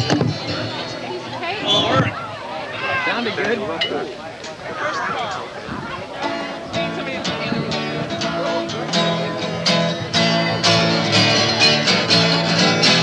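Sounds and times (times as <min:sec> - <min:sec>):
acoustic guitars strumming: 0:00.0 - 0:13.0.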